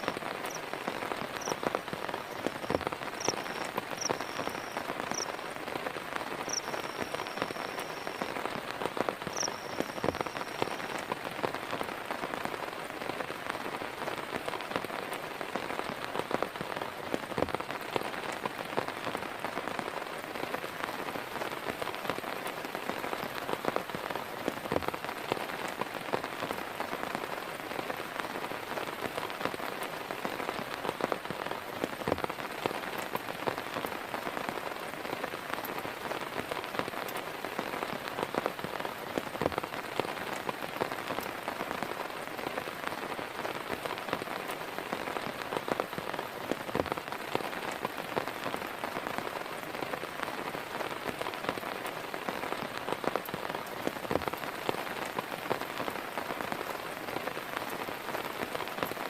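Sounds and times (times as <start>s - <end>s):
heavy rain: 0.0s - 59.0s
raindrops striking a surface: 0.0s - 59.0s.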